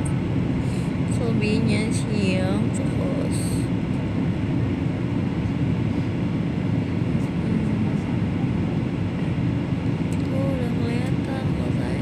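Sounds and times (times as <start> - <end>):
airliner cabin engine rush: 0.0 - 12.0.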